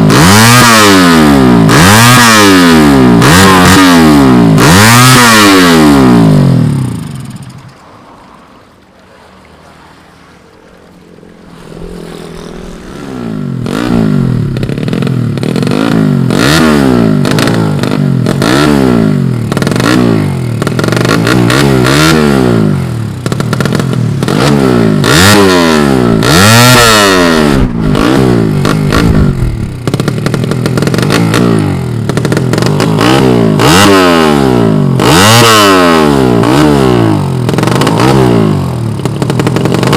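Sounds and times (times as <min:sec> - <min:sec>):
motorcycle engine revving: 0:00.0 - 0:08.0, 0:10.8 - 0:39.9.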